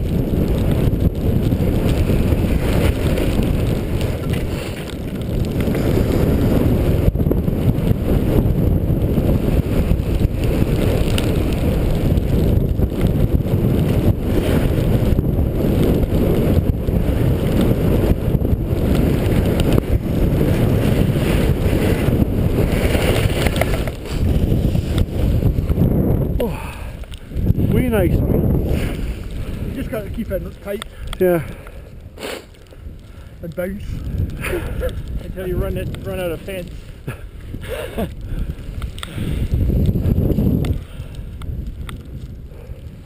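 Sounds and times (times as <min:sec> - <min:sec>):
skis sliding over snow: 0:00.0 - 0:07.1, 0:07.7 - 0:43.0
wind rushing over microphone: 0:00.0 - 0:43.0.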